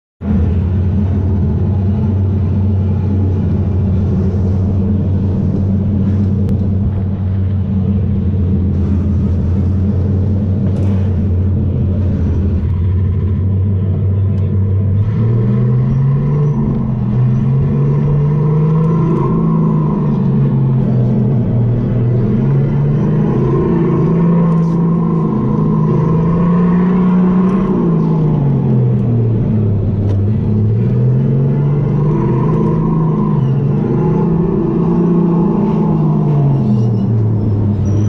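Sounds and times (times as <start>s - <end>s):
steady rumble: 0.2s - 38.0s.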